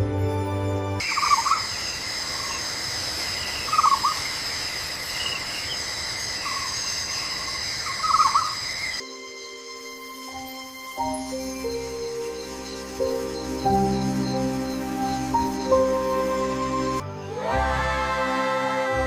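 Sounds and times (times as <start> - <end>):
high-pitched insect chorus: 1.0 - 17.0.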